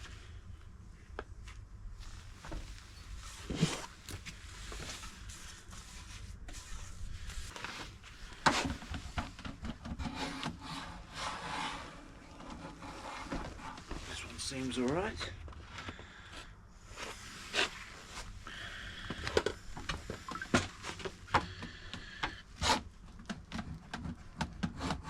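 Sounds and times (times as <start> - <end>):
rubbing and scraping on wood: 2.0 - 15.2, 16.9 - 25.0.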